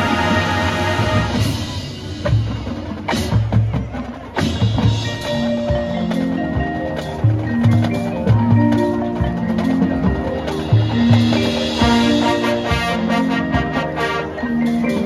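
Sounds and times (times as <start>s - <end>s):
mallet instruments ringing notes: 0.0s - 15.0s.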